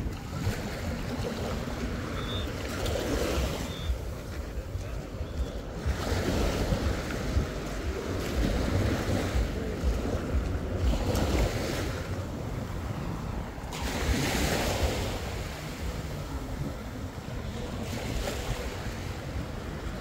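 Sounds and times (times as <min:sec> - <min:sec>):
small waves washing on sand: 0:00.0 - 0:20.0
wind rumbling on microphone: 0:00.0 - 0:20.0.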